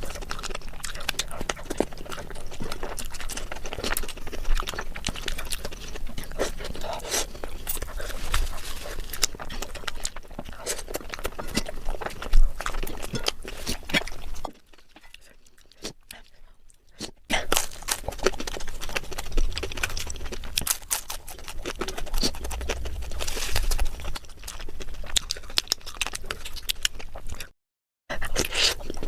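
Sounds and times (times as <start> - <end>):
crunching and chewing: 0.0 - 27.5, 28.1 - 29.0.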